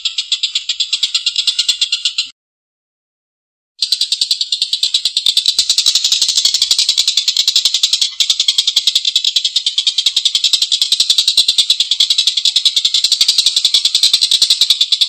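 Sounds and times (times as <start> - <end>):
kingfisher laughing rattle: 0.0 - 2.3, 4.6 - 15.0.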